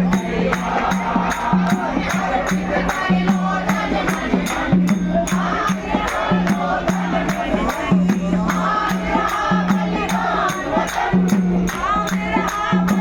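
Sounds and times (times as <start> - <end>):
group of voices singing: 0.0 - 13.0
hand percussion beat: 0.0 - 13.0.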